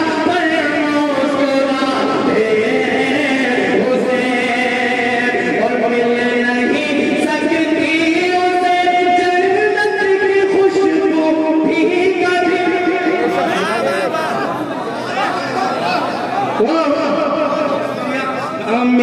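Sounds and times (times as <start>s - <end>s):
man chanting into a microphone: 0.0s - 14.2s, 16.6s - 19.0s.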